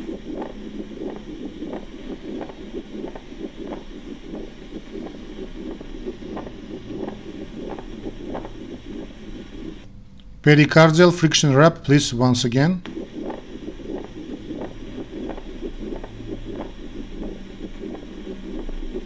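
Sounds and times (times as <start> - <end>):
scratchy rasping heart strokes: 0.0 - 9.9, 12.8 - 19.0
steady hiss: 0.0 - 9.9, 11.8 - 19.0.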